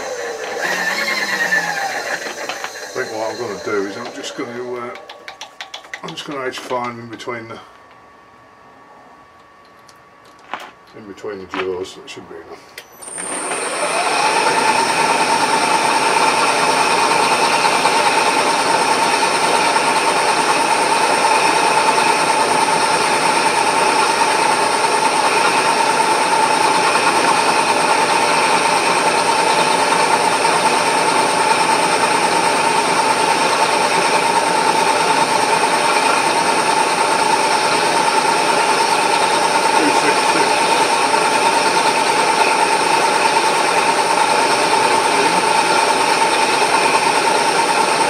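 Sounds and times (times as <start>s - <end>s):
milling machine spindle whining: 0.0s - 6.9s, 12.8s - 48.0s.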